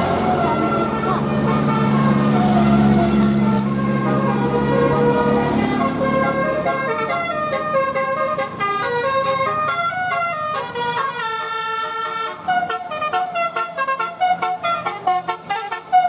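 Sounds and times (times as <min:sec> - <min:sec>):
musical air horn playing a tune: 0:00.0 - 0:16.0.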